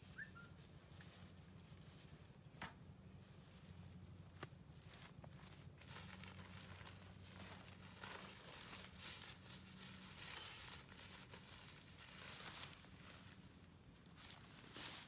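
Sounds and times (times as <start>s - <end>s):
soft rustles: 0.0s - 2.6s, 3.2s - 15.0s.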